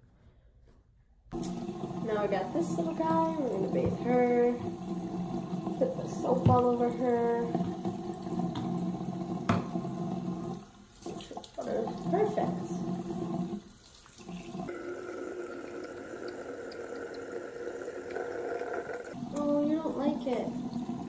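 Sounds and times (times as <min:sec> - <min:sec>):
faucet water splashing: 0:01.4 - 0:21.0.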